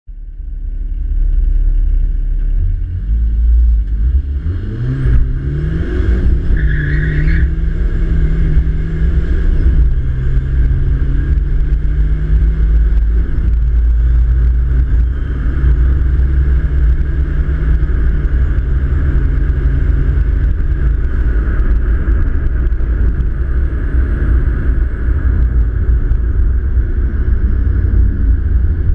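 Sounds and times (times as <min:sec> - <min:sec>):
turbodiesel engine accelerating: 0:00.1 - 0:28.9.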